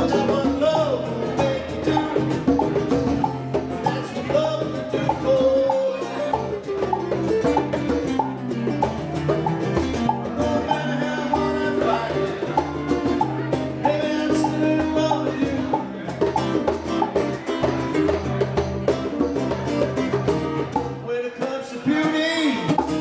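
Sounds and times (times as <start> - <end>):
acoustic guitars: 0.0 - 23.0
congas: 0.0 - 23.0
drum kit: 0.0 - 23.0.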